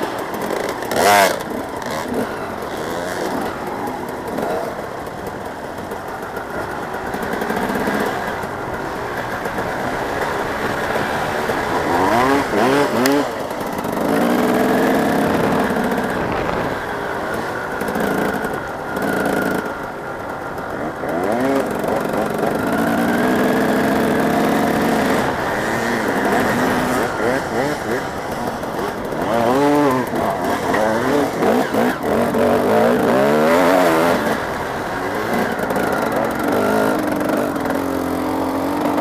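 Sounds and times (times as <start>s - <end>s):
motocross bikes revving: 0.0s - 39.0s.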